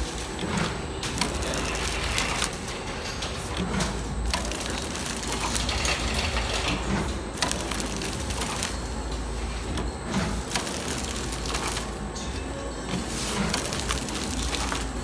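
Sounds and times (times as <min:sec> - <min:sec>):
low machine hum: 0:00.0 - 0:15.0
machine clattering: 0:00.0 - 0:15.0.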